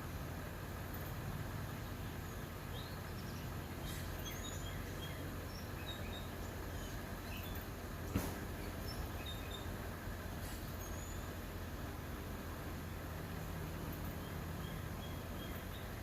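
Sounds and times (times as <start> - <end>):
low background rumble: 0.0 - 16.0
small birds chirping: 0.9 - 16.0.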